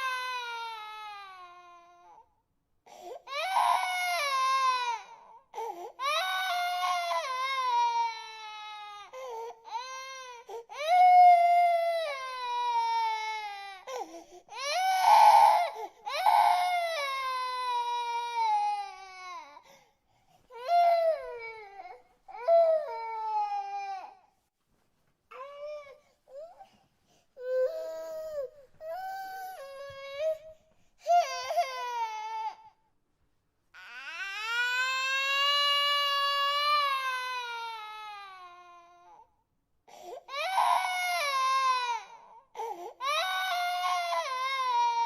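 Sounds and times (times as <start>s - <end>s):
infant crying: 0.0s - 2.3s, 2.9s - 19.8s, 20.5s - 24.3s, 25.3s - 26.7s, 27.4s - 32.8s, 33.8s - 39.3s, 39.9s - 45.0s.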